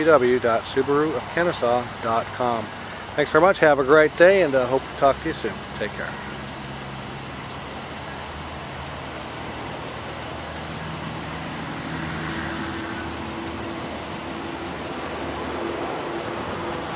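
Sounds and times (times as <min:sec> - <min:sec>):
outdoor background noise: 0:00.0 - 0:16.9
vehicle engine idling: 0:00.0 - 0:16.9.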